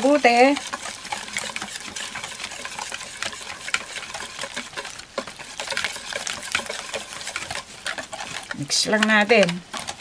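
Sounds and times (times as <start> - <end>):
batter swishing: 0.0 - 10.0
whisk clicking on glass bowl: 0.0 - 10.0.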